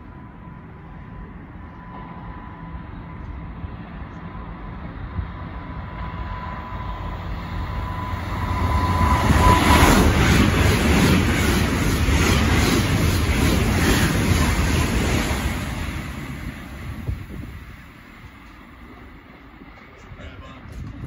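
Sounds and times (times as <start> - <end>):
train rushing past: 0.0 - 21.0.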